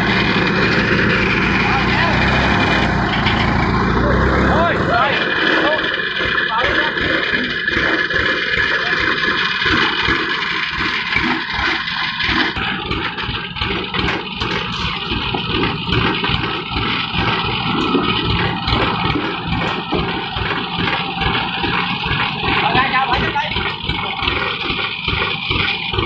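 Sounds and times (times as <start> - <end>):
farm machine engine running: 0.0 - 26.0.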